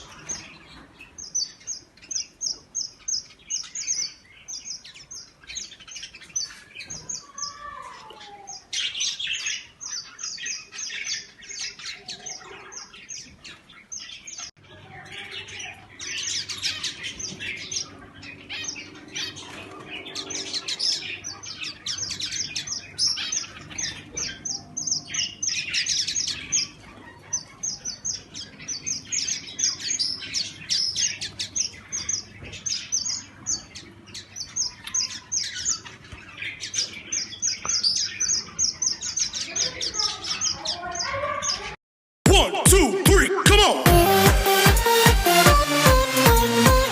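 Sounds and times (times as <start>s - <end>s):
finches chirping: 0.0s - 41.7s.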